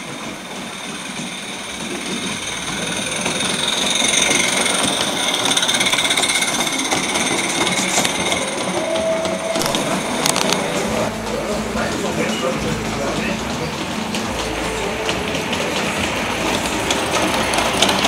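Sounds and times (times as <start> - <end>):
model steam locomotive rattling: 0.0 - 18.0.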